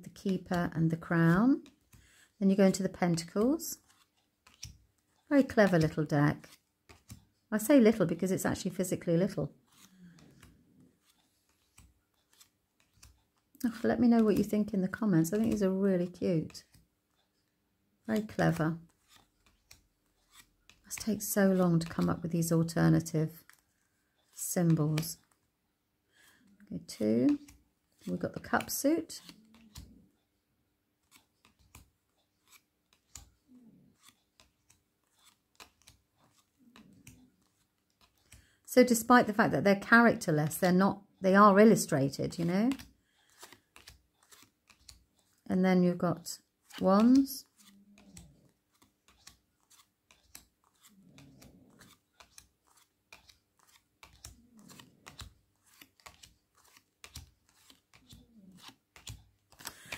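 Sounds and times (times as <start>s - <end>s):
cards clicking and rubbing: 0.0s - 39.1s, 41.6s - 45.4s, 46.2s - 59.9s.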